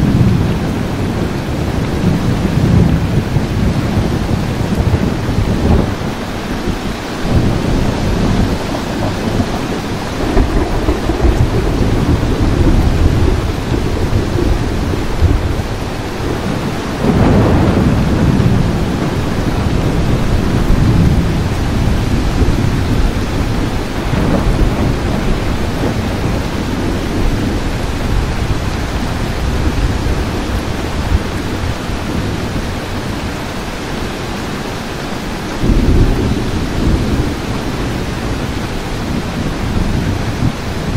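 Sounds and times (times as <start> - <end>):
rolling thunder: 0.0 - 33.6, 35.3 - 40.9
steady rain: 0.0 - 40.9.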